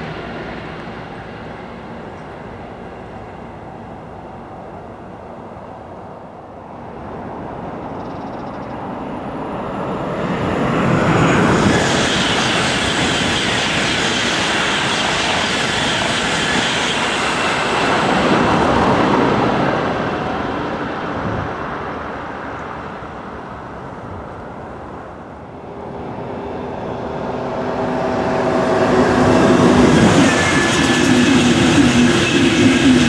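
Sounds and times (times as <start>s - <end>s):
high-speed train passing: 0.0s - 33.0s.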